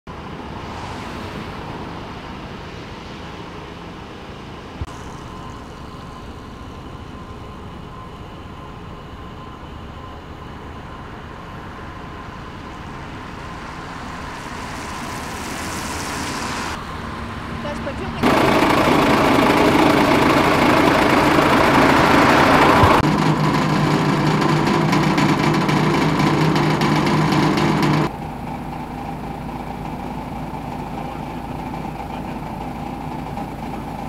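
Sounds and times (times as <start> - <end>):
highway traffic passing: 0.1 - 34.0.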